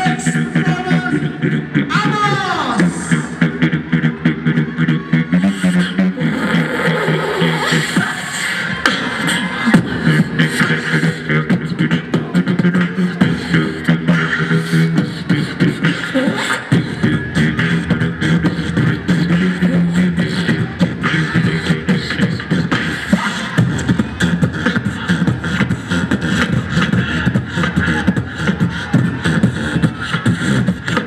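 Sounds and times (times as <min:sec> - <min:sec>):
vocal beatbox drum sounds: 0:00.0 - 0:31.0.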